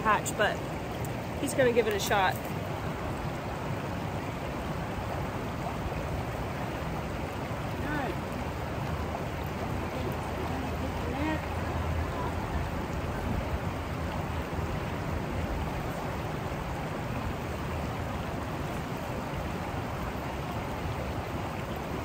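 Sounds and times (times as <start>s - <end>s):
river rapids rushing: 0.0s - 22.0s.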